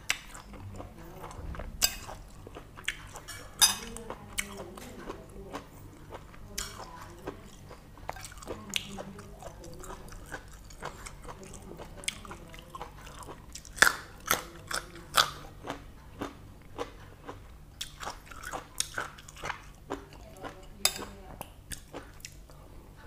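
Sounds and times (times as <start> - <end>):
wet chewing: 0.0 - 22.6.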